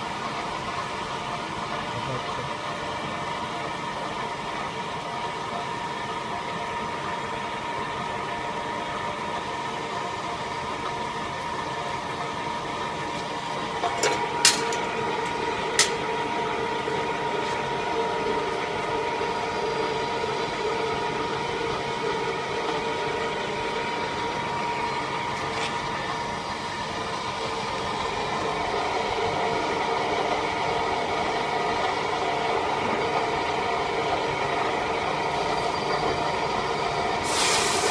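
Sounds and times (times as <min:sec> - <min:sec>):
gearbox humming and whining: 0:05.2 - 0:37.2.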